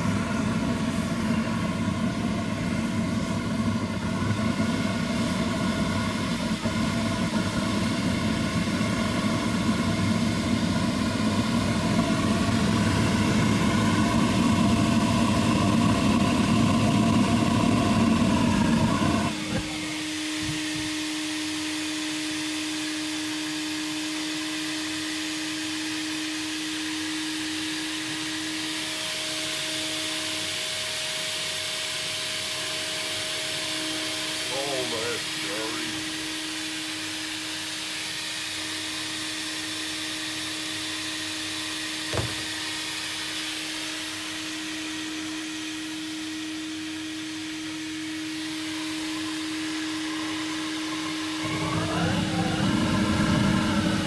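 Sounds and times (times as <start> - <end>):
furnace burner rumble: 0.0 - 54.0
vacuum cleaner blower whine: 0.0 - 54.0.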